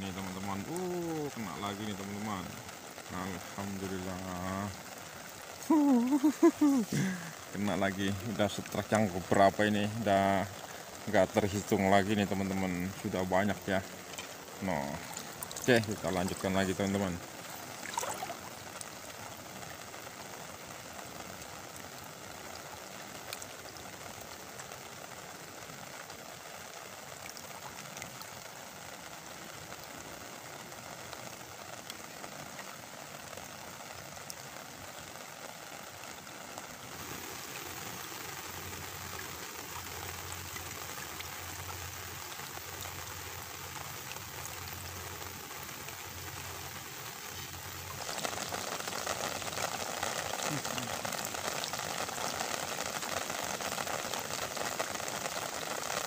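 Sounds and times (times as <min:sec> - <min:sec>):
heavy rain on river water: 0:00.0 - 0:56.0.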